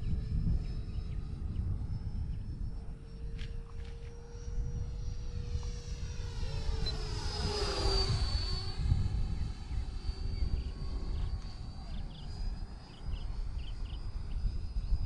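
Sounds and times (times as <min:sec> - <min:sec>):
model jet fan whine: 0:00.0 - 0:15.0
wind buffeting microphone: 0:00.0 - 0:15.0.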